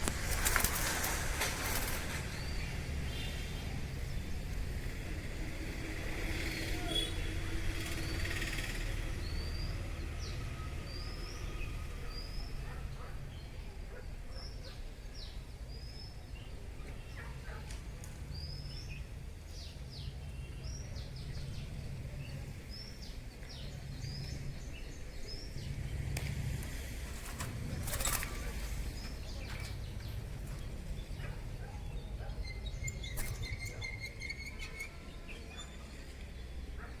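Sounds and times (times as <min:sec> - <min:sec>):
small birds chirping: 0:06.5 - 0:37.0.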